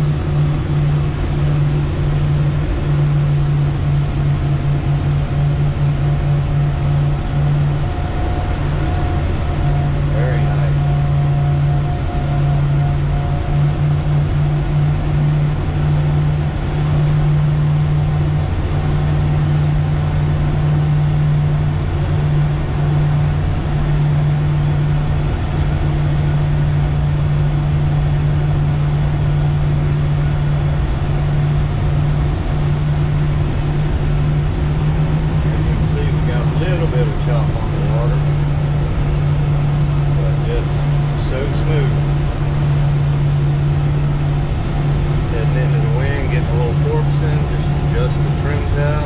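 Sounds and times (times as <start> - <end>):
rush of wind and water: 0.0 - 36.5, 37.1 - 49.0
outboard motor droning: 0.0 - 49.0.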